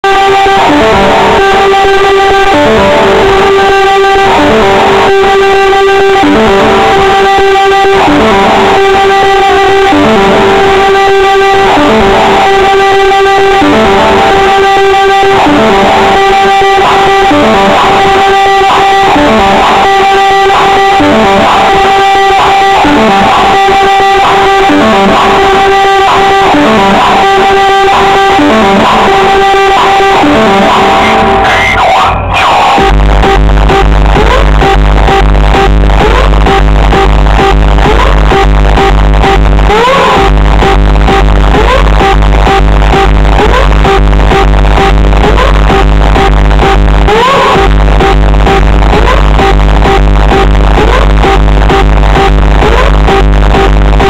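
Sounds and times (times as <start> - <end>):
loud distorted guitar music: 0.0 - 54.0.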